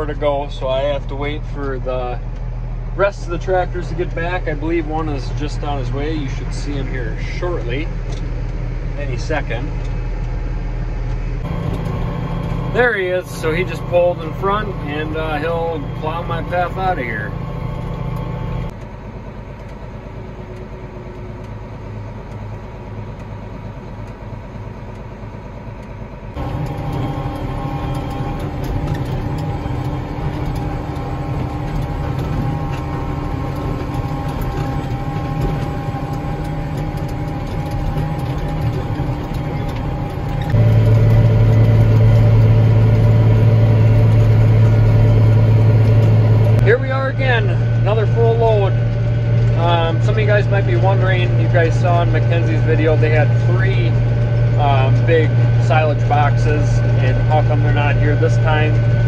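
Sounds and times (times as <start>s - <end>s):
tractor engine humming: 0.0s - 59.0s.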